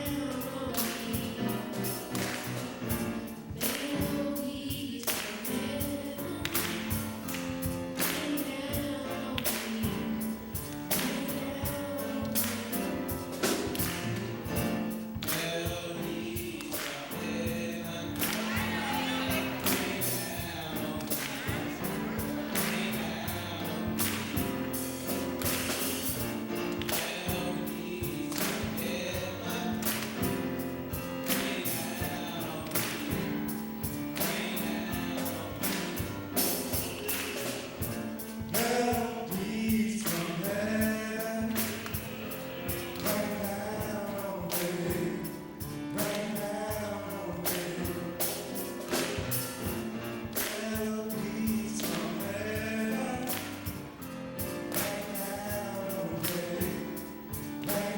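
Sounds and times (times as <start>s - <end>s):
choir singing gospel: 0.0s - 57.9s
steady drum beat: 0.0s - 57.9s.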